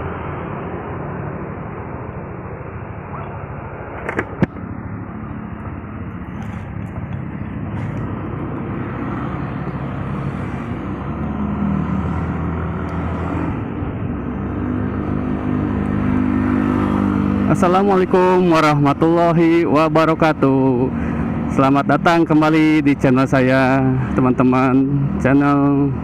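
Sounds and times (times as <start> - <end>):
road and traffic noise: 0.0 - 26.0.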